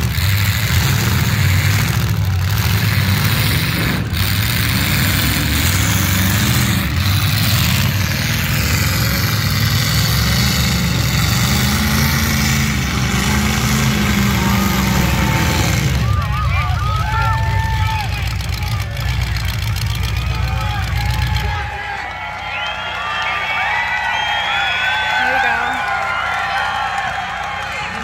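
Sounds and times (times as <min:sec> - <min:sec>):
car engines revving loudly: 0:00.0 - 0:22.7.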